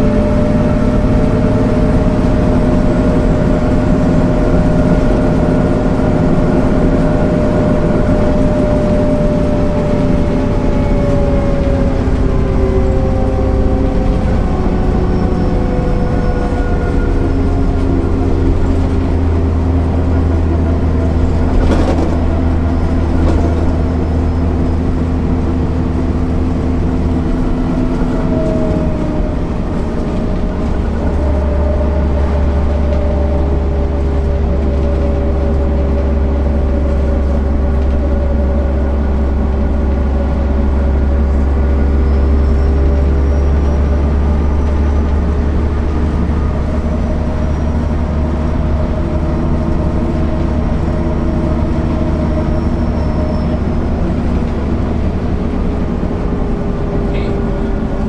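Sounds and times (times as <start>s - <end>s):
bus diesel engine humming: 0.0s - 58.0s.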